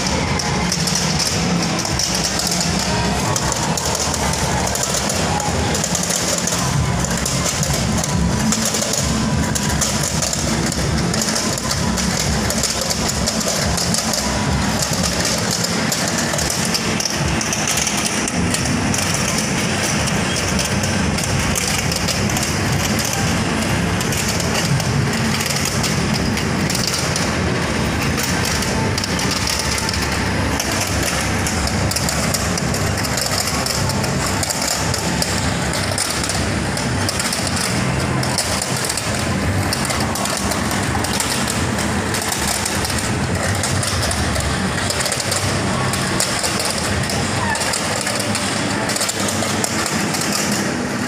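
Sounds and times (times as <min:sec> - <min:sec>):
arcade game mechanical clatter: 0:00.0 - 0:51.0.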